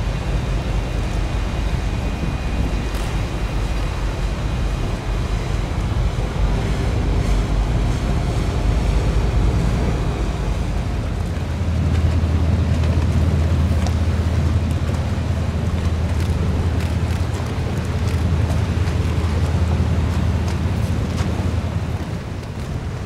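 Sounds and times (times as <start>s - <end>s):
boat engines rumbling: 0.0s - 23.0s
close boat engine drone: 0.0s - 23.0s
water washing: 0.0s - 23.0s
wind noise on microphone: 0.0s - 23.0s.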